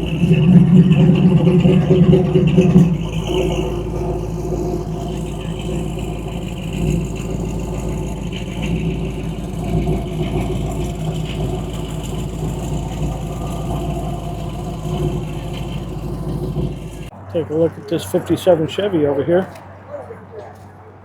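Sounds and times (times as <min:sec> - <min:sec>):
car engine idling: 0:00.0 - 0:20.4.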